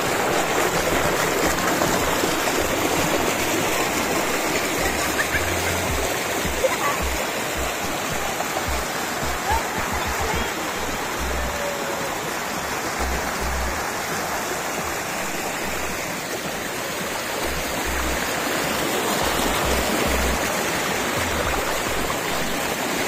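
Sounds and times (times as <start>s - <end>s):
stream water rushing over boulders: 0.0s - 23.0s.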